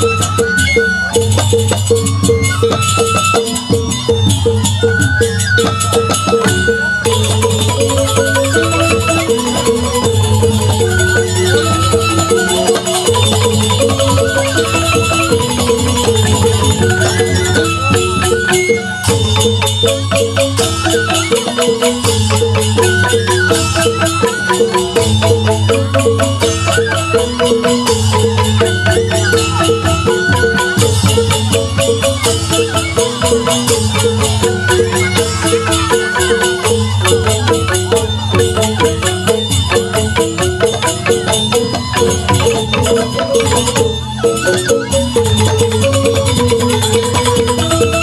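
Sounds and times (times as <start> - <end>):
bamboo flutes: 0.0 - 48.0
bamboo xylophones: 0.0 - 48.0
drums: 0.0 - 48.0
hand cymbals: 0.0 - 48.0.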